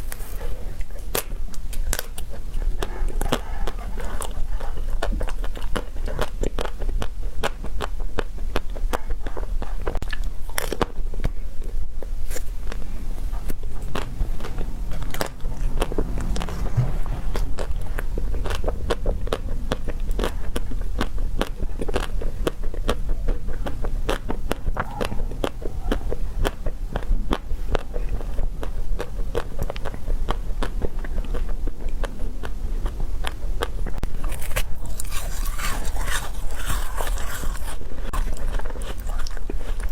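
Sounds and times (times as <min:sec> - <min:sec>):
steady low hum: 0:00.0 - 0:29.3, 0:33.8 - 0:39.9
crunching and chewing: 0:00.0 - 0:39.9.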